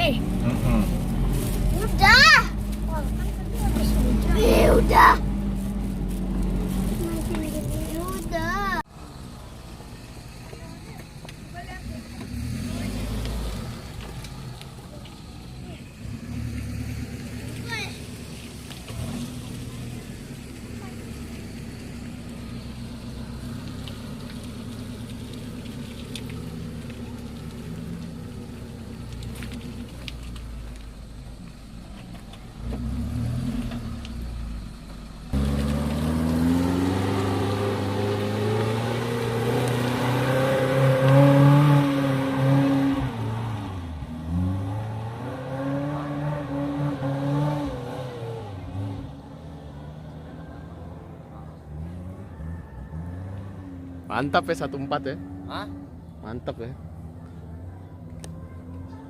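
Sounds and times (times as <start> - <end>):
car engine revving: 0.0 - 9.4, 11.5 - 57.2.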